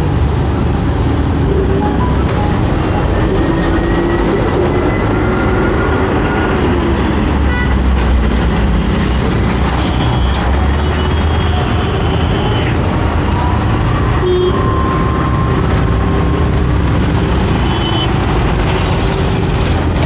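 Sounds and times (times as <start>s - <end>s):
surrounding traffic: 0.0s - 20.0s
wind: 0.0s - 20.0s.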